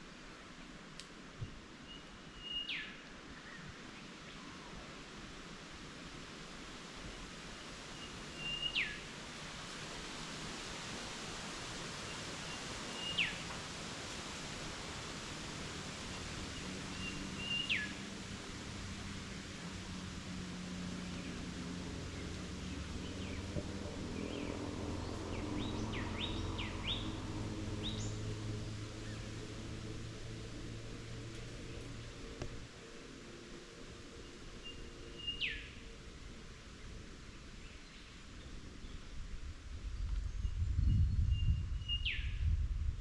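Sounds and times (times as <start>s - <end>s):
wind hiss: 0.1s - 43.0s.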